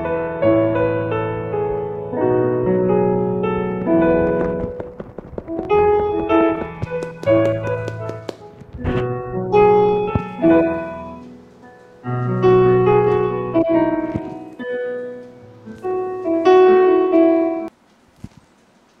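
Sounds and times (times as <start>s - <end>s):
electronic keyboard piano chords: 0.0s - 17.7s.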